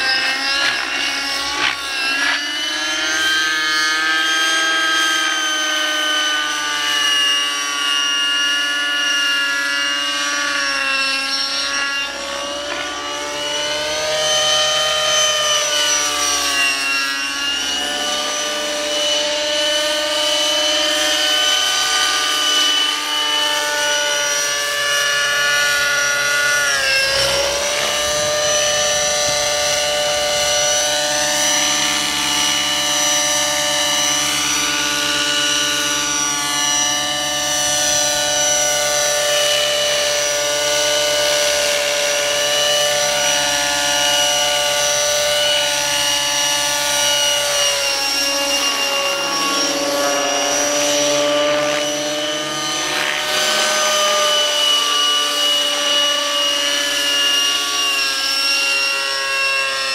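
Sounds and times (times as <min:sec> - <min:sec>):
model helicopter engine whine: 0:00.0 - 0:59.9.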